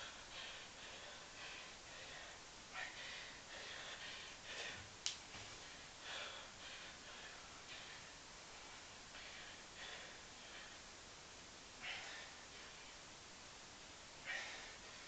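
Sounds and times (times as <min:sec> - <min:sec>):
man breathing hard: 0:00.0 - 0:10.9, 0:11.8 - 0:13.1, 0:14.2 - 0:15.0.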